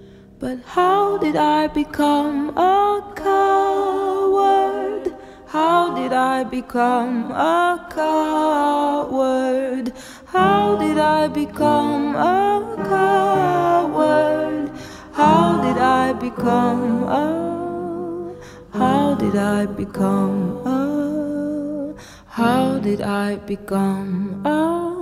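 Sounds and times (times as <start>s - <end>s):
person singing: 0.0s - 25.0s.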